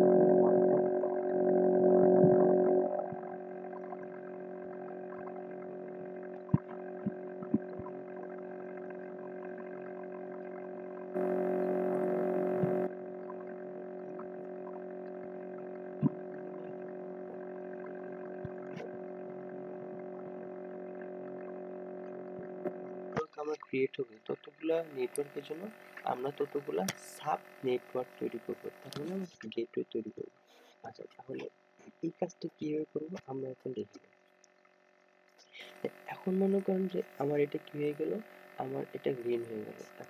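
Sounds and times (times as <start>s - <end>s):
droning hum: 0.0s - 40.0s.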